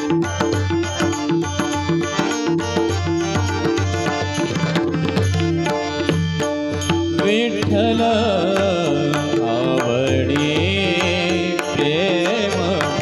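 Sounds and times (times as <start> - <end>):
tabla drumming: 0.0 - 13.0.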